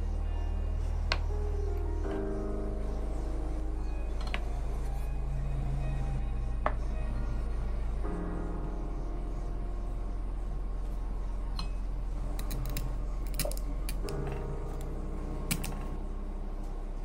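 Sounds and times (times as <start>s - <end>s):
quiet background music: 0.0s - 17.0s.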